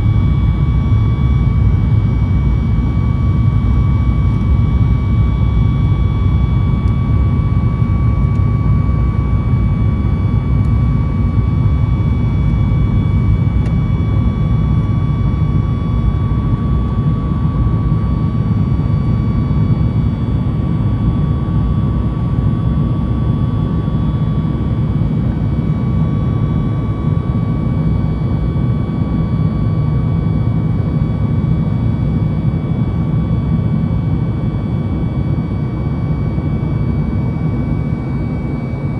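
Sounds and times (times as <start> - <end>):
high engine whine: 0.0 - 38.9
jet engine deep rumble: 0.0 - 38.9.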